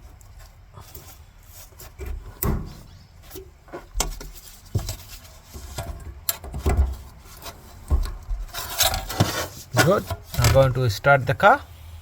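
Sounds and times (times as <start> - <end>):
parts being handled and fitted: 0.0 - 10.8.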